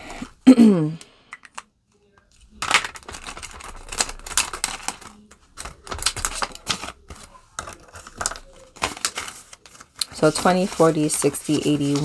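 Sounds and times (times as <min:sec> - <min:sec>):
banknotes crackling: 0:01.5 - 0:12.0.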